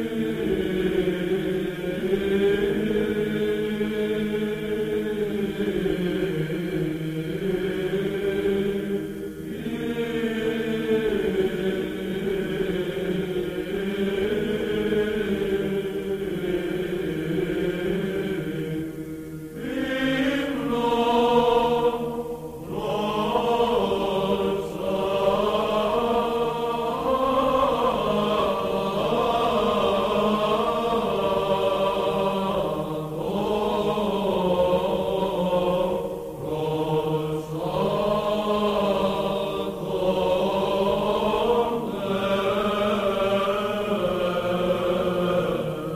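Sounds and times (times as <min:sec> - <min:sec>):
choir chanting: 0:00.0 - 0:45.9.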